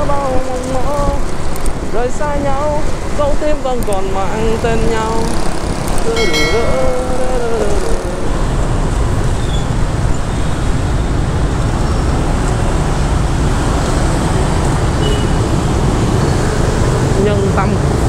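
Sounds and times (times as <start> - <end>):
road and traffic rumble: 0.0 - 18.0.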